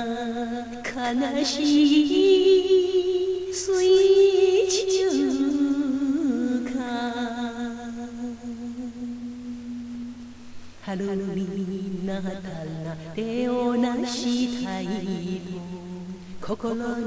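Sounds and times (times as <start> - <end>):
person singing: 0.0 - 10.2, 10.8 - 17.0.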